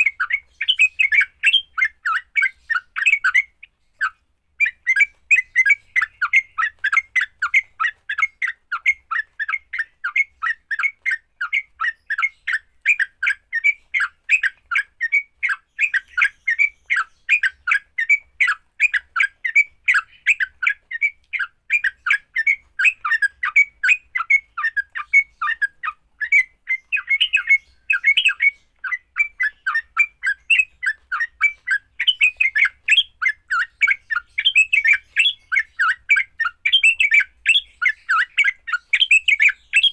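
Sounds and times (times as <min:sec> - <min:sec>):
bird harsh chirps: 0:00.0 - 0:39.9.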